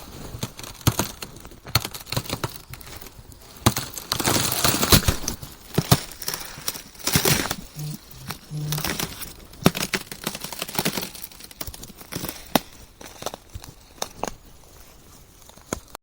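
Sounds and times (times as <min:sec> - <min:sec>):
ice cracking and crunching: 0:00.4 - 0:15.9.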